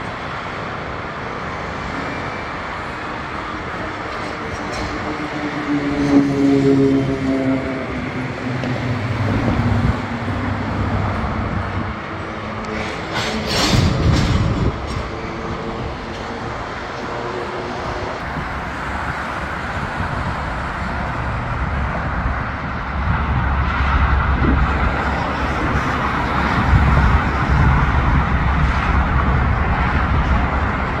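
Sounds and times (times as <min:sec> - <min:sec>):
diesel locomotive rumble: 0:00.0 - 0:31.0.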